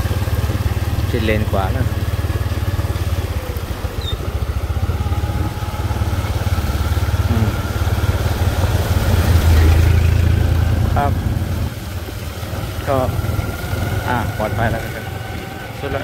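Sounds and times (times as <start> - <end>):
motorcycle engine running: 0.0 - 16.0
motorcycle passing through water: 0.0 - 16.0
pickup truck passing through water: 0.0 - 16.0.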